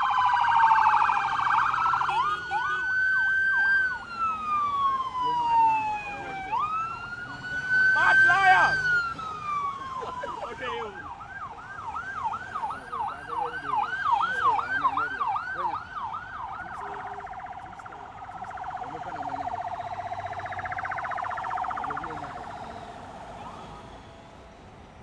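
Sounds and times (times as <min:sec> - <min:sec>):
siren yelping and warbling: 0:00.0 - 0:25.0.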